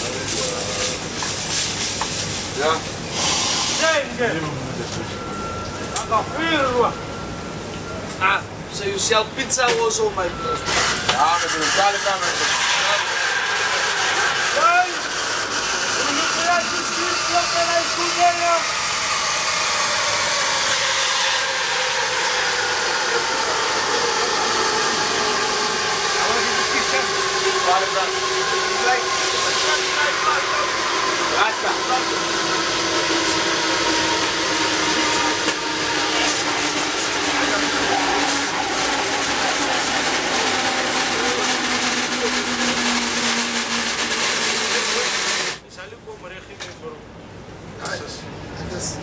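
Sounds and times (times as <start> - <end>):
loud rushing hiss: 0.0 - 4.2, 10.7 - 45.7.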